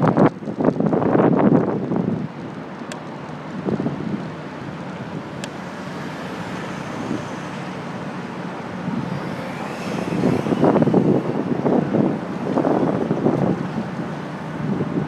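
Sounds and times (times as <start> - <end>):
road and traffic noise: 0.0 - 15.0
wind rushing over microphone: 0.0 - 15.0.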